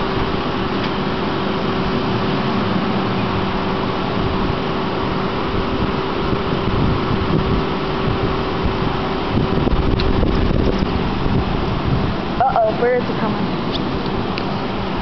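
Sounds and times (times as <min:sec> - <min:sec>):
machine hum: 0:00.0 - 0:15.0
rushing noise: 0:00.0 - 0:15.0.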